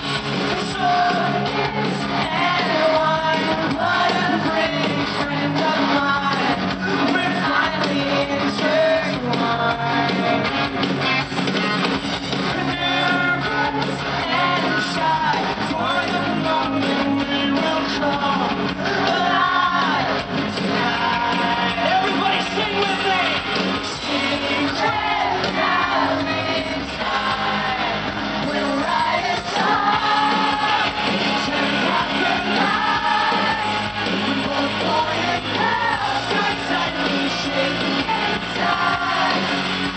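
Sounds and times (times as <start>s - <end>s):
man singing: 0.0s - 10.7s, 12.4s - 39.6s
live pop-rock band playing: 0.0s - 39.9s.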